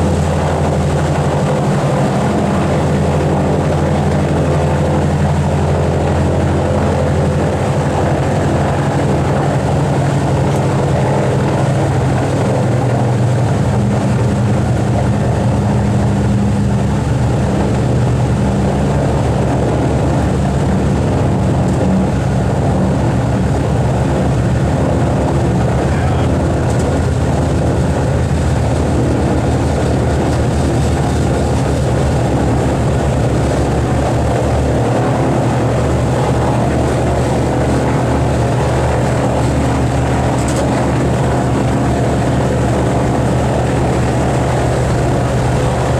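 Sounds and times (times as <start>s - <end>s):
propeller aircraft engines droning: 0.0s - 45.9s.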